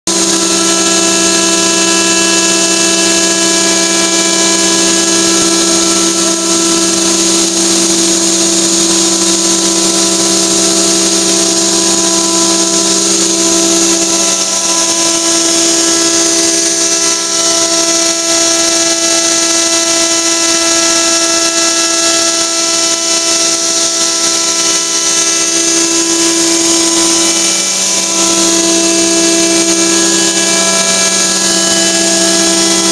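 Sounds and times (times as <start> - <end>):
router spindle whine: 0.1 - 32.9.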